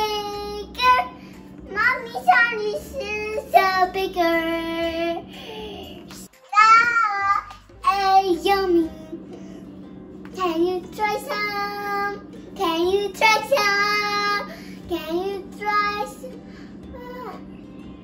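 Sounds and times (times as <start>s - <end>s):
faint steady hum: 0.0s - 6.4s, 7.0s - 18.0s
girl singing: 0.0s - 9.5s, 10.3s - 17.8s.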